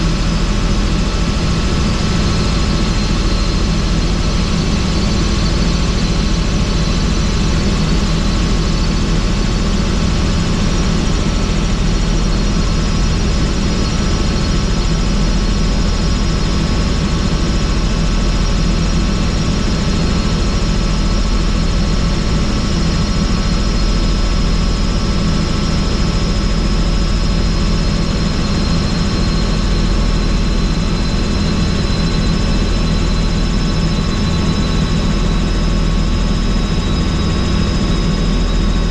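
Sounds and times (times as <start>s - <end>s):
helicopter rotor and engine noise: 0.0s - 38.9s
high whine: 0.0s - 38.9s.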